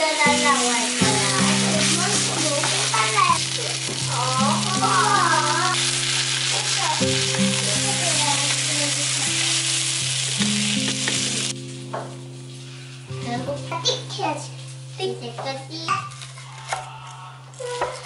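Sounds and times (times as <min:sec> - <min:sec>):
pancake sizzling in oil: 0:00.0 - 0:16.7.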